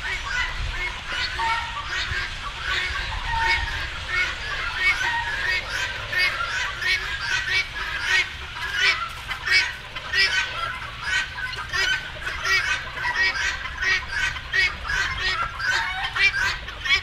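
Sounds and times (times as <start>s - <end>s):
flock of birds calling: 0.0s - 17.0s
low steady rumble: 0.0s - 17.0s.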